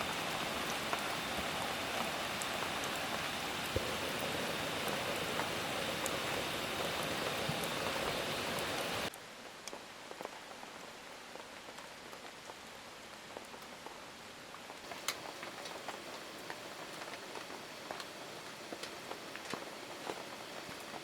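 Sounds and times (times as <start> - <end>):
heavy rain hiss: 0.0 - 21.0
light rain: 0.0 - 21.0
raindrops ticking: 0.0 - 21.0.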